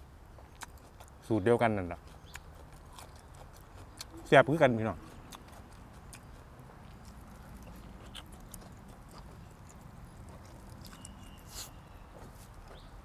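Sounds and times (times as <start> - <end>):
faint chewing: 0.3 - 13.0.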